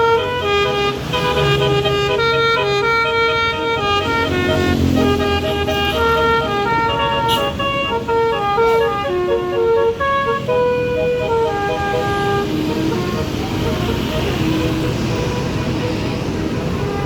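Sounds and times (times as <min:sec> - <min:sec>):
bus musical horn playing a tune: 0:00.0 - 0:17.0
low rumble of vehicle: 0:00.0 - 0:17.0.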